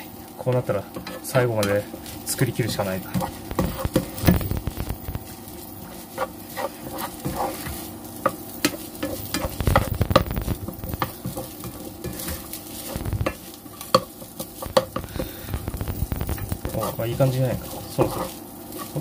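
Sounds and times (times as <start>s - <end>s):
rice sizzling in a frying pan: 0.0s - 19.0s
spatula scraping and tapping pan: 0.5s - 15.4s, 16.0s - 19.0s.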